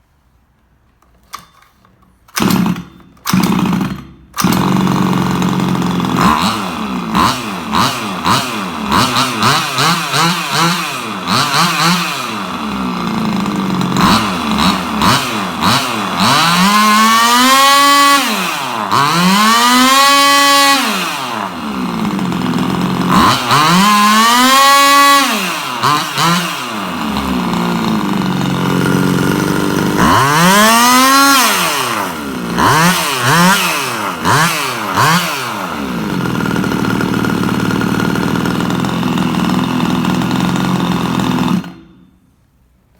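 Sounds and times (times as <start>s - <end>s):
two-stroke engine revving: 2.4s - 42.0s.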